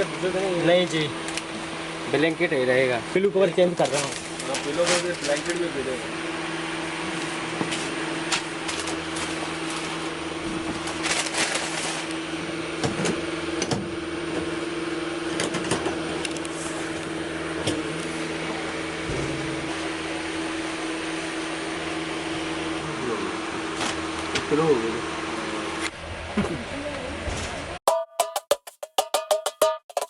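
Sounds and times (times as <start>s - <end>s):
train compartment mechanical hum: 0.0s - 27.8s.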